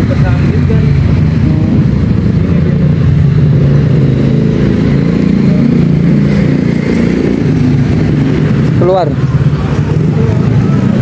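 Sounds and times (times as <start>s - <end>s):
motor traffic drone: 0.0s - 11.0s.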